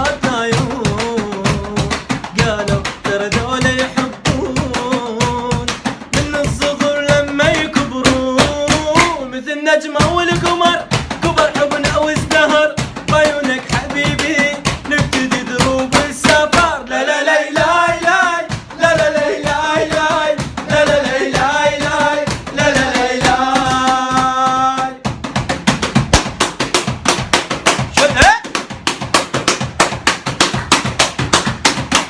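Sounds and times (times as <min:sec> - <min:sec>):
fast hand drum beat: 0:00.0 - 0:32.0.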